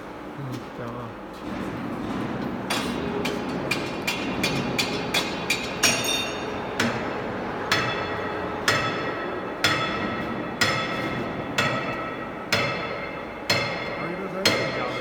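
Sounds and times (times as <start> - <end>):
steady background noise: 0.0 - 15.0
hammer striking metal: 2.7 - 15.0.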